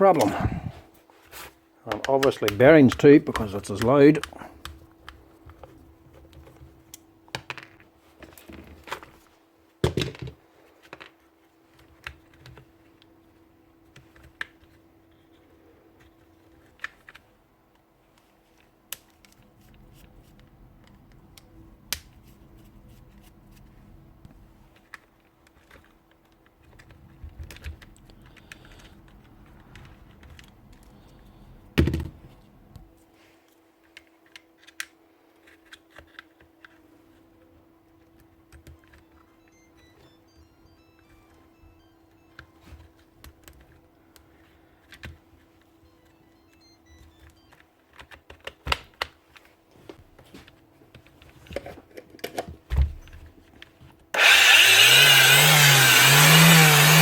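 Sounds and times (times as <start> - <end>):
faint steady hum: 0.0 - 54.3.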